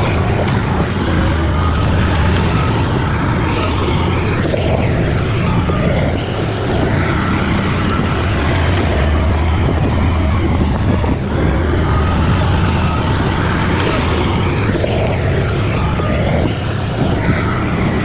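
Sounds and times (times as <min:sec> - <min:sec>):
bulldozer diesel engine rumbling: 0:00.0 - 0:18.0.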